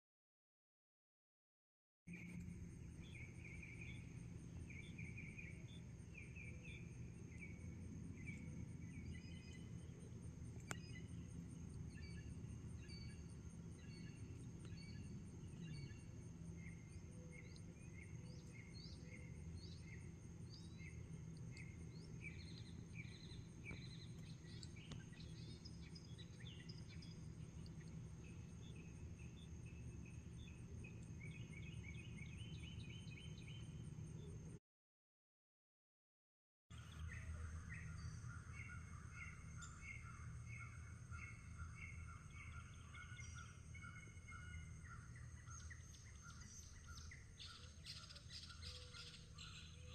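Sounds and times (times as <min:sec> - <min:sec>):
birds chirping: 0:02.1 - 0:34.4, 0:36.8 - 0:49.9
high insect drone: 0:02.1 - 0:34.6, 0:36.8 - 0:49.9.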